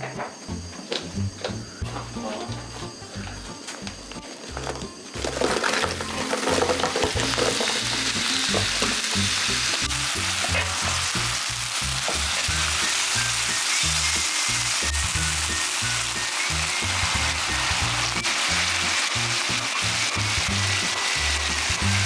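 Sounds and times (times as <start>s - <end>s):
meat sizzling on a griddle: 4.3s - 22.0s.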